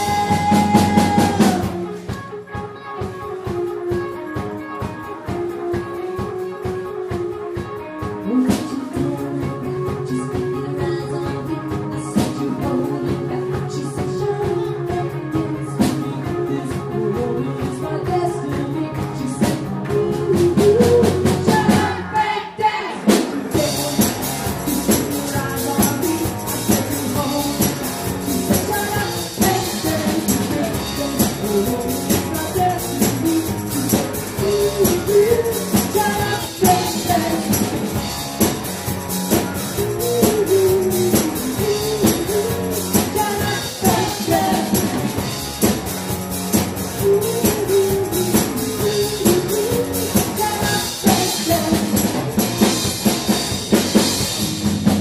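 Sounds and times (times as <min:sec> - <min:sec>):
person singing: 0:00.0 - 0:45.8, 0:46.5 - 0:54.3
live rock band playing: 0:00.0 - 0:55.0.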